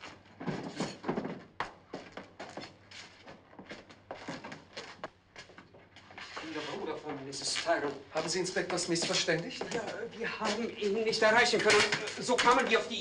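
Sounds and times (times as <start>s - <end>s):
hurried footsteps: 0.0s - 12.9s.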